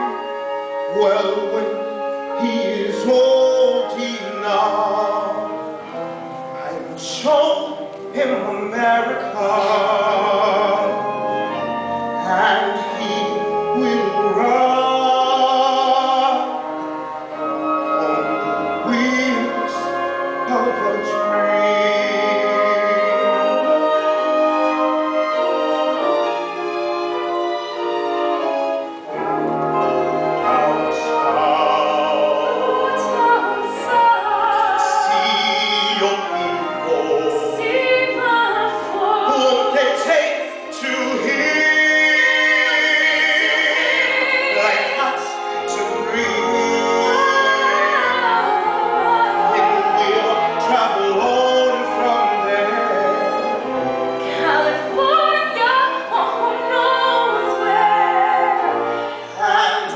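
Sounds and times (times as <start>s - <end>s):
man and woman singing duet: 0.0s - 28.5s, 29.1s - 59.9s
orchestral accompaniment: 0.0s - 59.9s.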